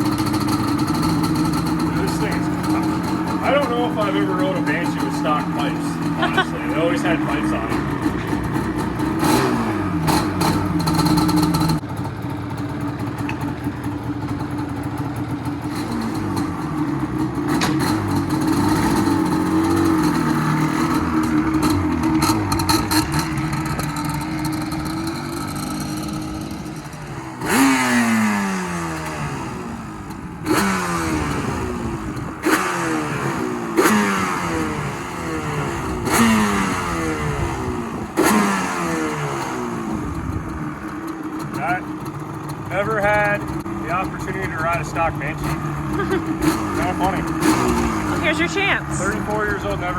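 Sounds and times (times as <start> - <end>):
two-stroke engine revving: 0.0 - 49.9.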